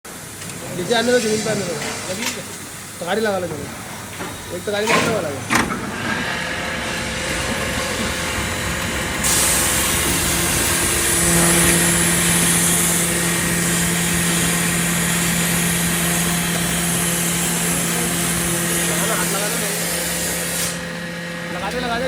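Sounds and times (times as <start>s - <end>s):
heavy machinery running: 0.1s - 22.0s
steady hum: 0.1s - 22.0s.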